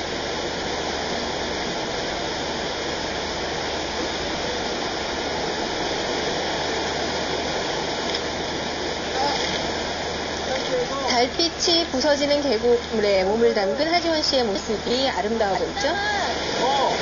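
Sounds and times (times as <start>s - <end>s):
stream rushing: 0.0s - 17.0s.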